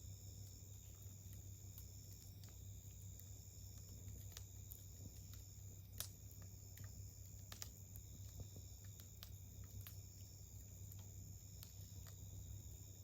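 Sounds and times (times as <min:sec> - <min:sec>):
campfire crackling: 0:00.0 - 0:13.0
insect trill: 0:00.0 - 0:13.0.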